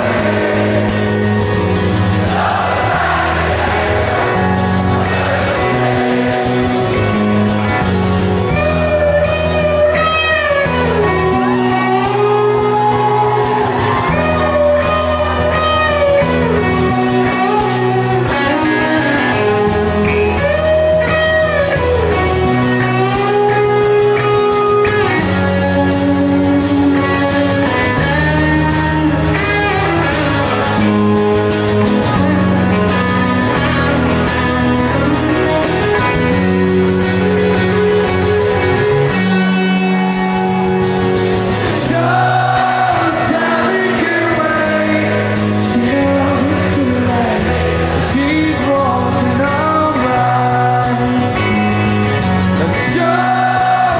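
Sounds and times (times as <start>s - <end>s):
electric guitar melody: 0.0s - 53.9s
sustained bass notes: 0.0s - 53.9s.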